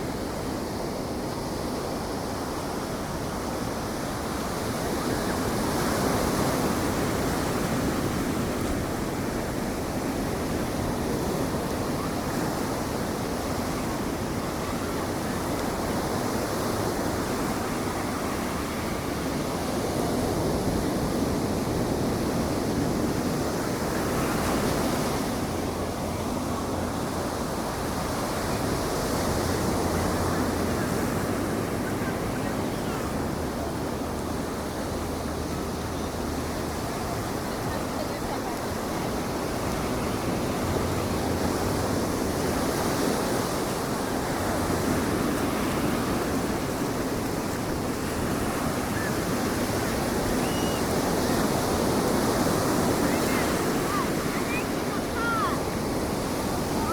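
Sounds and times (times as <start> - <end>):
ocean surf breaking: 4.1 - 56.9.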